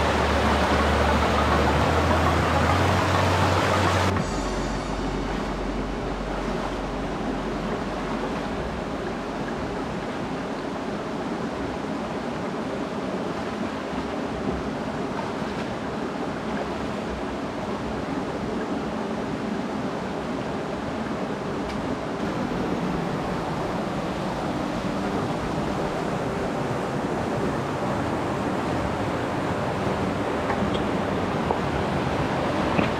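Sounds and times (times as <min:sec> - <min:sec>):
river rushing over rocks: 0:00.0 - 0:32.9.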